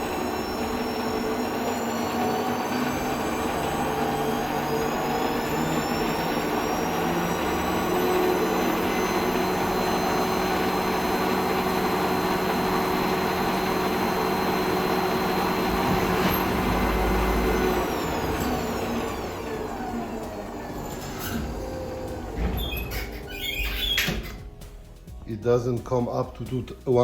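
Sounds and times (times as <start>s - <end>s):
lathe motor humming and whining: 0.0s - 24.0s.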